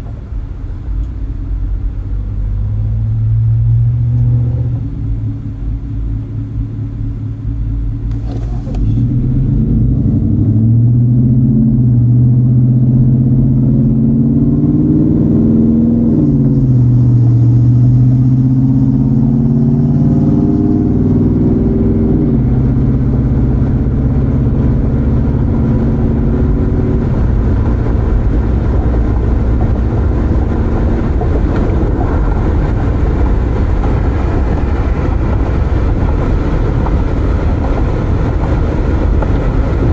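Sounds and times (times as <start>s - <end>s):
car engine accelerating: 0.0s - 39.9s
tyre and road noise: 0.0s - 39.9s.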